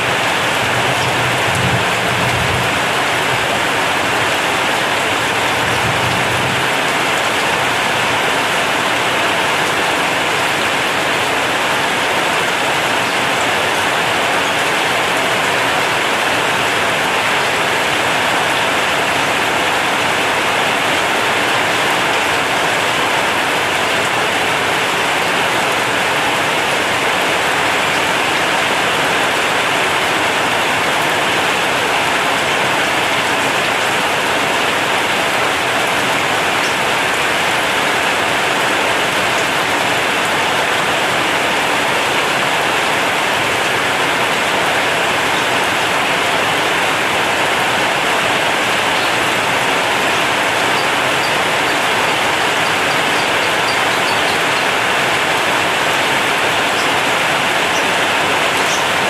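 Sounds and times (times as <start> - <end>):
heavy rain on metal roof: 0.0 - 59.0.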